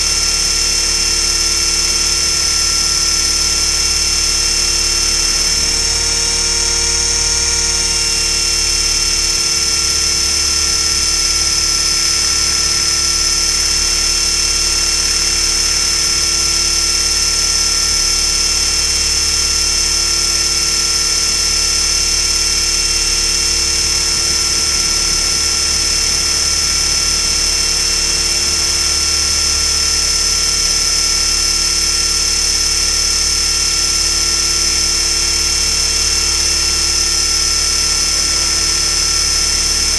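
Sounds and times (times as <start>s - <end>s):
rc helicopter high-pitched whine: 0.0s - 39.9s.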